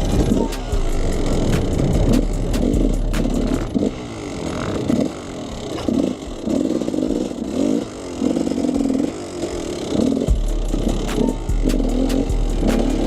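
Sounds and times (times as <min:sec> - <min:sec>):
two-stroke engine revving: 0:00.0 - 0:13.0.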